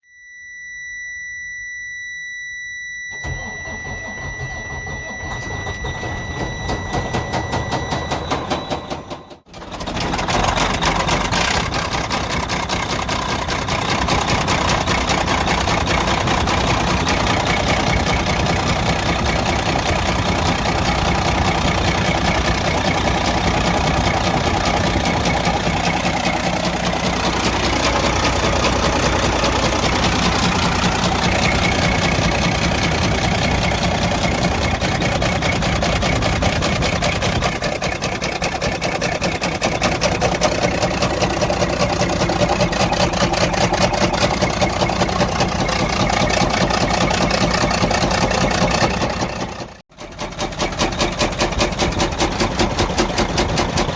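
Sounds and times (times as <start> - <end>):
diesel engine knocking: 3.2 - 53.9.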